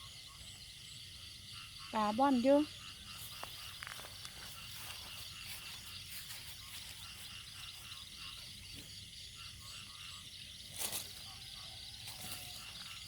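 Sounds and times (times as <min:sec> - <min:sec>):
chorus of frogs calling: 0:00.0 - 0:13.0.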